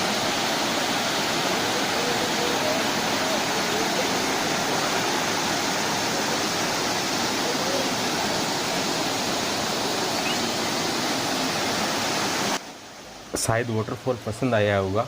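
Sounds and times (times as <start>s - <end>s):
waterfall pouring: 0.0s - 12.6s.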